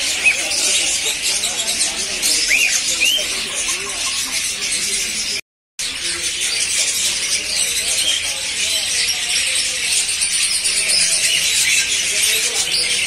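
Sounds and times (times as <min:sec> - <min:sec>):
small parrots chattering: 0:00.0 - 0:13.0.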